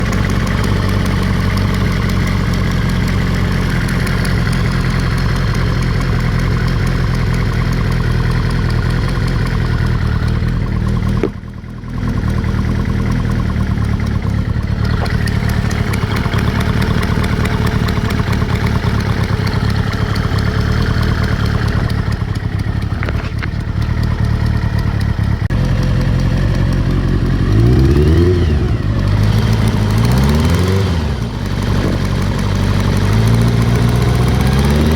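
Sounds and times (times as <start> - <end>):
engine ticking: 0.0 - 34.9
motorcycle engine idling: 0.0 - 34.9
motorcycle throttle blips: 0.0 - 34.9.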